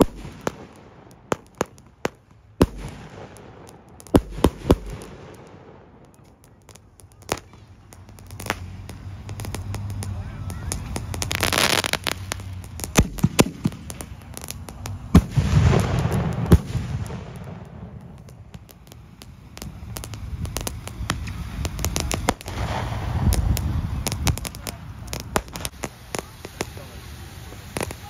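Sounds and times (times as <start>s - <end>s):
fireworks bangs and crackling pops: 0.0s - 28.0s.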